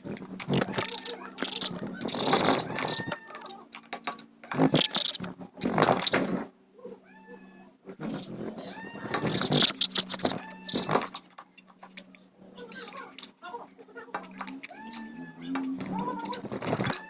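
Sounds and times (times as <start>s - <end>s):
animal harsh cries: 0.4s - 5.3s, 6.3s - 11.4s, 12.2s - 17.0s.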